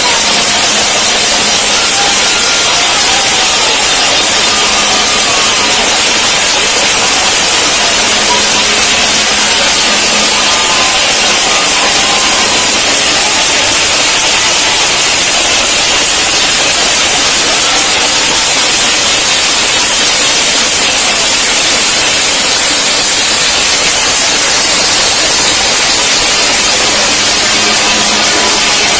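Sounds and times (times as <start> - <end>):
beating steel plates: 0.0 - 28.9
crowd clapping: 0.0 - 28.9.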